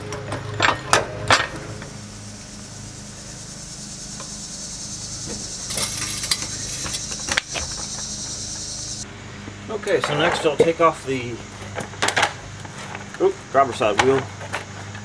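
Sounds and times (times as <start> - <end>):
insects chirring: 1.4 - 15.0.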